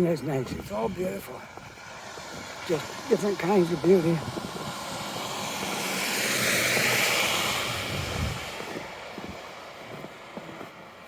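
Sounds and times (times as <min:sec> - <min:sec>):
faint footsteps: 0:00.0 - 0:11.0
tyres hissing on wet street: 0:01.2 - 0:11.0.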